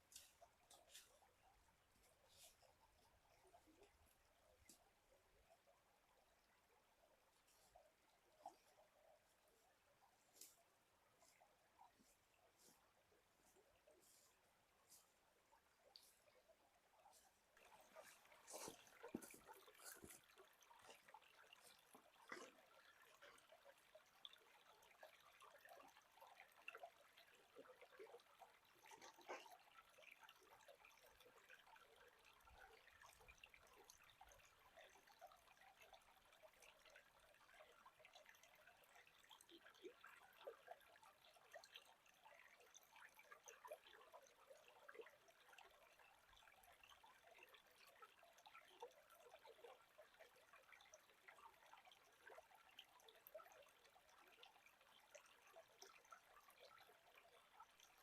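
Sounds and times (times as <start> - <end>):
small stream trickling: 0.0 - 58.0.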